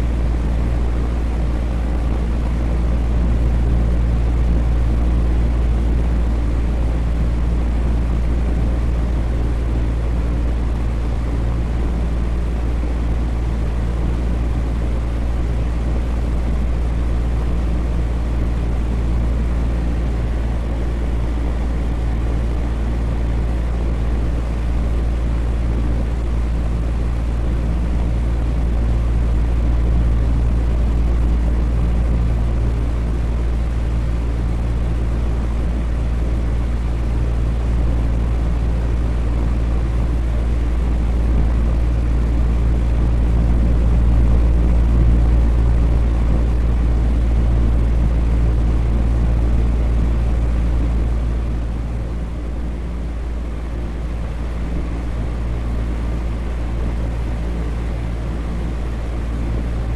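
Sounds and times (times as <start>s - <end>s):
fan motor hum: 0.0s - 59.9s.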